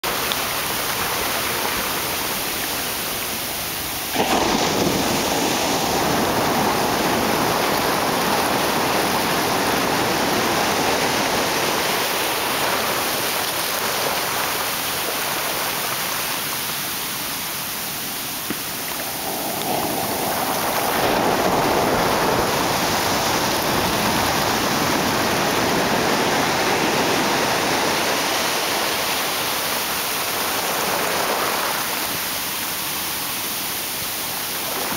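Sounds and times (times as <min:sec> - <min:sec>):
ocean surf washing on sand: 0:00.0 - 0:34.9.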